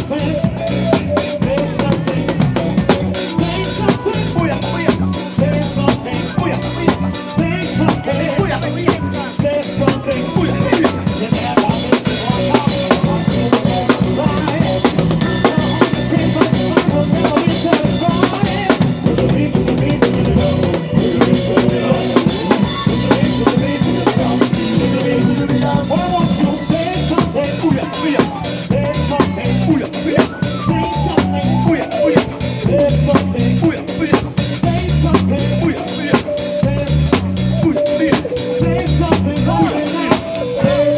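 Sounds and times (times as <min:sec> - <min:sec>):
bass line: 0:00.0 - 0:40.9
live band playing: 0:00.0 - 0:40.9.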